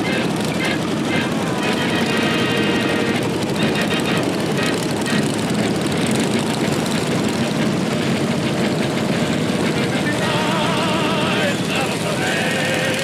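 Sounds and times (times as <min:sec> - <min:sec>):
small tractor engines driving past: 0:00.0 - 0:13.0.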